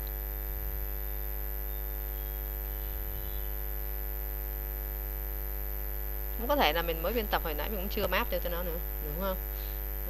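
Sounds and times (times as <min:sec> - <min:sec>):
electrical mains hum: 0:00.0 - 0:10.0
thin high whine: 0:00.0 - 0:10.0.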